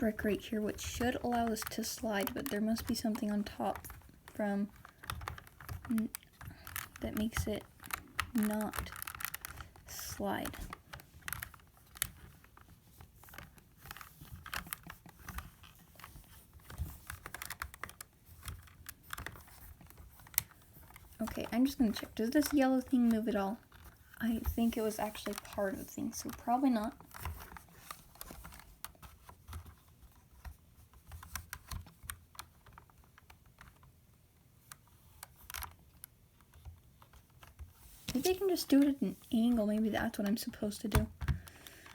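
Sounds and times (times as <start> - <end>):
plastic pieces clicking and rattling: 0.0 - 34.0.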